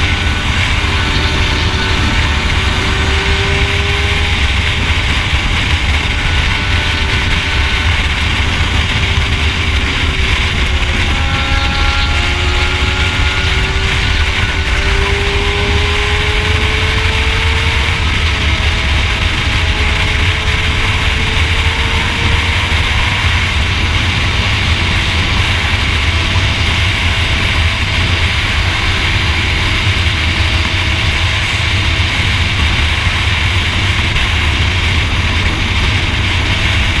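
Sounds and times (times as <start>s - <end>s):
motorcycle engine drone: 0.0s - 37.0s
wind buffeting microphone: 0.0s - 37.0s.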